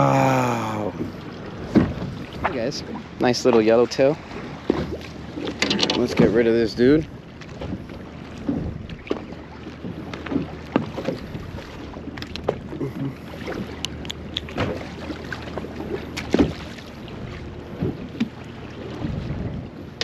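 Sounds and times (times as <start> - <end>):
water noise: 0.0 - 20.0
wind: 0.0 - 20.0.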